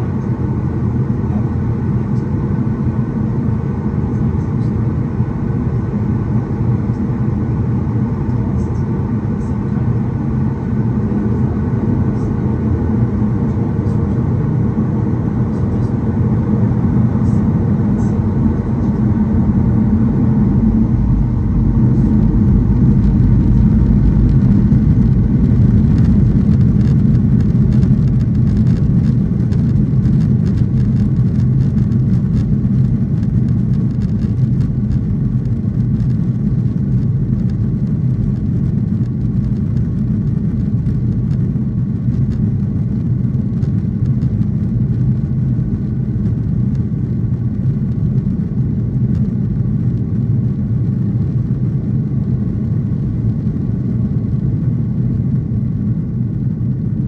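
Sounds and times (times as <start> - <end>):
jet engines at takeoff power: 0.0 - 57.0
wheels rumbling on runway: 0.0 - 57.0.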